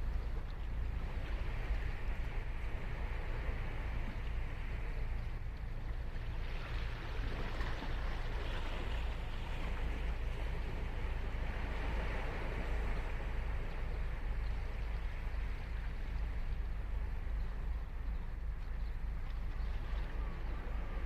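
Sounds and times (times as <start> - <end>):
ocean waves washing on beach: 0.0 - 21.0.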